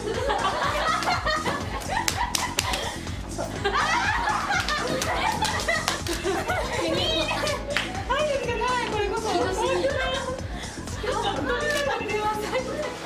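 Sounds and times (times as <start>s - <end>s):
background music: 0.0s - 13.0s
young women laughing and chattering: 0.0s - 13.0s.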